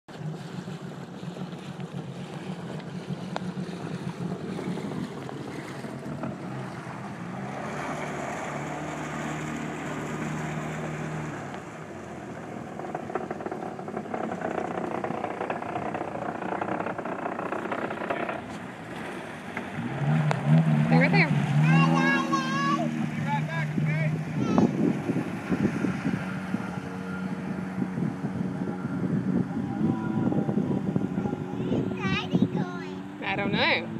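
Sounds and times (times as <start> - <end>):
jet ski engine revving: 0.1 - 33.9.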